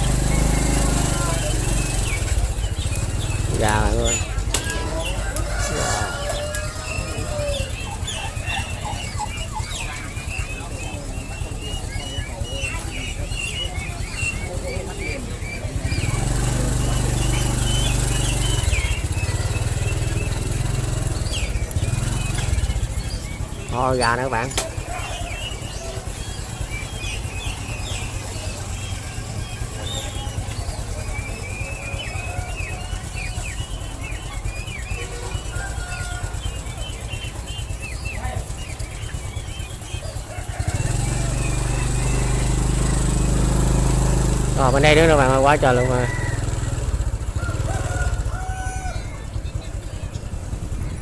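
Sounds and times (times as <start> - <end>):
caged birds chirping: 0.0 - 51.0
engine rumbling: 0.0 - 51.0.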